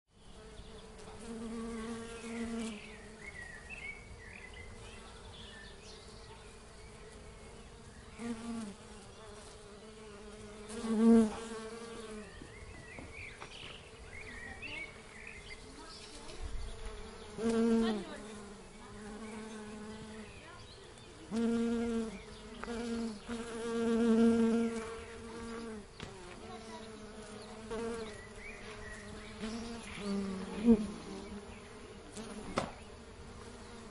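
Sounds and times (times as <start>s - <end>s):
honeybees buzzing: 0.2s - 33.9s.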